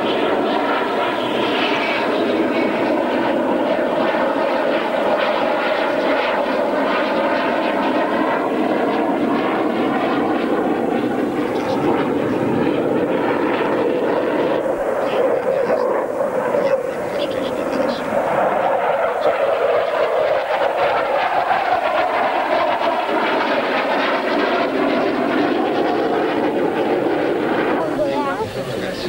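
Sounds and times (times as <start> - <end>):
jet fighter engine rushing: 0.0 - 29.0.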